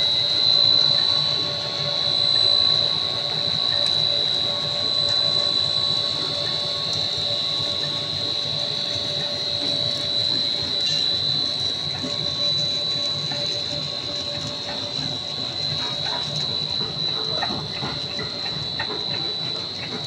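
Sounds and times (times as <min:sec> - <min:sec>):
high-pitched machine whine: 0:00.0 - 0:20.0
machine mechanical drone: 0:00.0 - 0:20.0.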